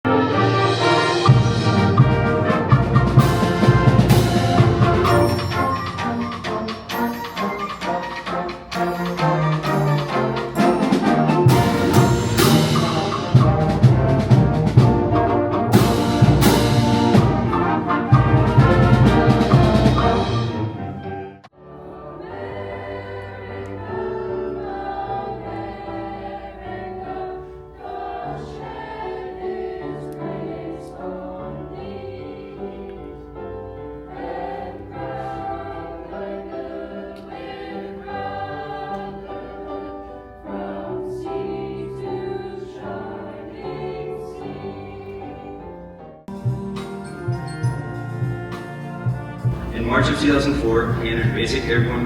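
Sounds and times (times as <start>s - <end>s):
choir singing sustained chords: 0.1s - 46.0s, 49.5s - 52.0s.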